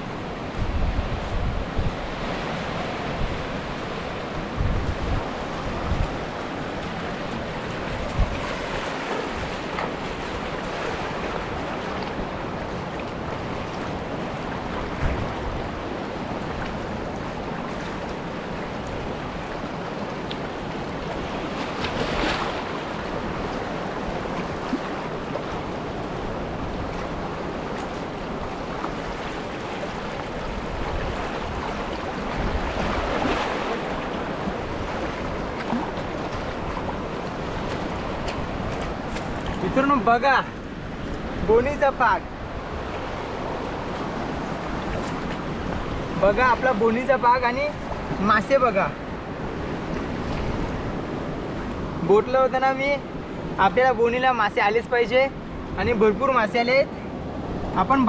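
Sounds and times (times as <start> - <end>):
wind buffeting the microphone: 0.0 - 46.9
surf washing over rocks: 0.0 - 58.0.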